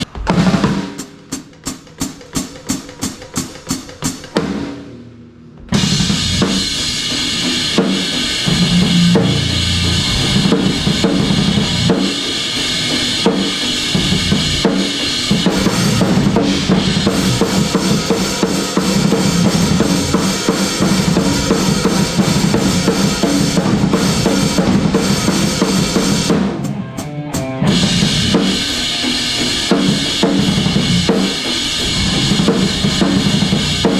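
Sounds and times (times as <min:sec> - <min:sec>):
drum kit: 0:00.0 - 0:33.9
rock band playing: 0:05.7 - 0:33.9.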